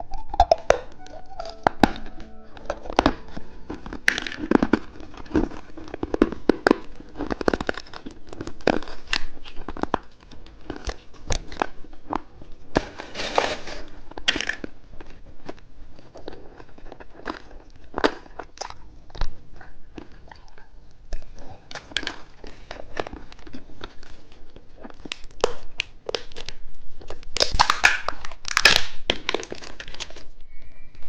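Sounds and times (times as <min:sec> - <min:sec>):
plastic wrappers crinkling and tearing: 0:03.4 - 0:20.3, 0:20.9 - 0:30.4.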